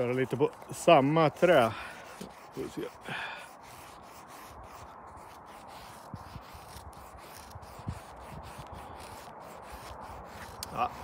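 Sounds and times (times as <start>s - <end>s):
knife scraping wood: 0.0s - 11.0s.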